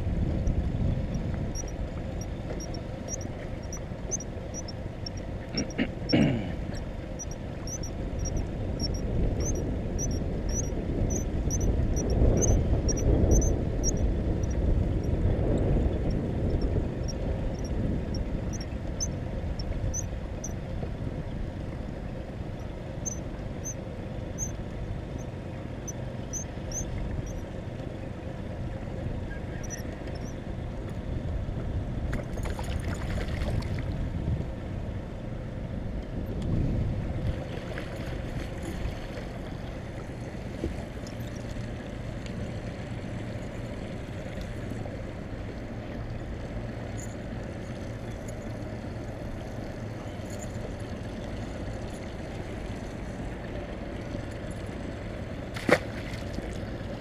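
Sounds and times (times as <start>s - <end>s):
boat motor running: 0.0s - 57.0s
water around hull: 0.0s - 57.0s.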